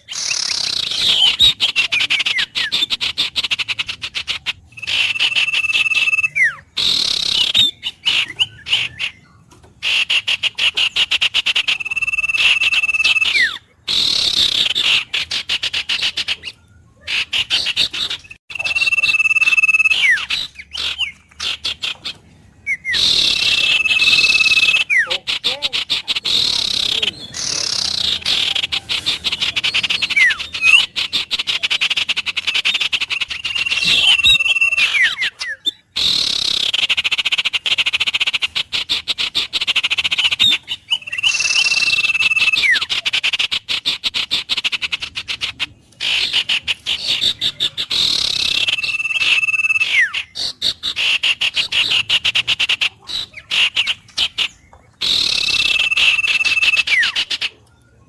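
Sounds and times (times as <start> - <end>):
bird whistled call: 0.0 - 58.0.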